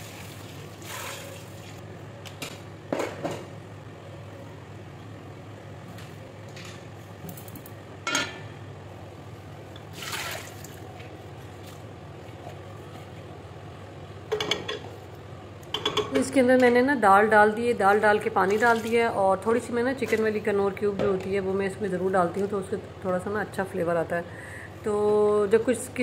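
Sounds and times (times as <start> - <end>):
steady low hum: 1.7 - 26.0.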